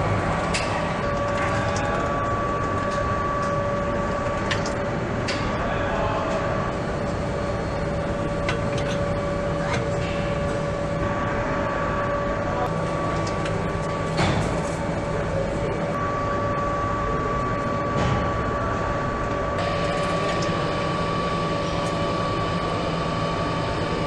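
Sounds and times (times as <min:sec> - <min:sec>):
machine hum with high tones: 0:00.0 - 0:24.0.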